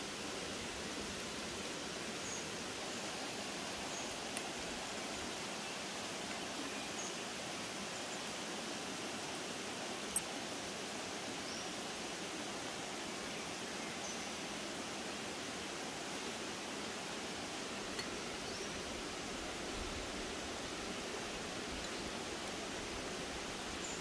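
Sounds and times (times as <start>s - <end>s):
forest stream rushing: 0.0s - 24.0s.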